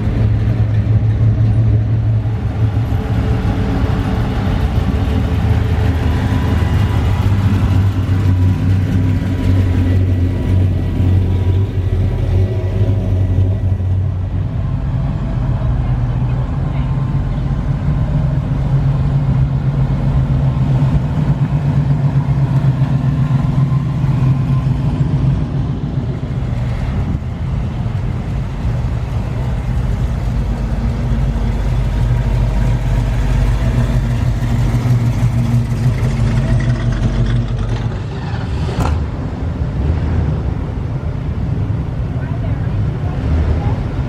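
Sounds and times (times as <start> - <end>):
car engine running: 0.0 - 39.7.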